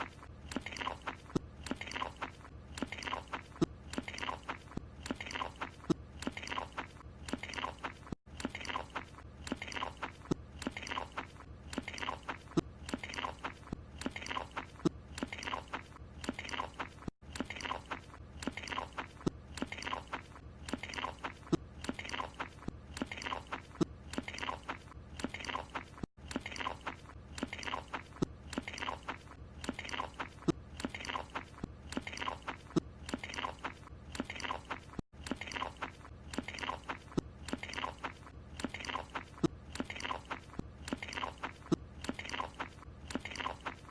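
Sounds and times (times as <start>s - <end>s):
cartoon chewing and crunching: 0.0s - 43.9s.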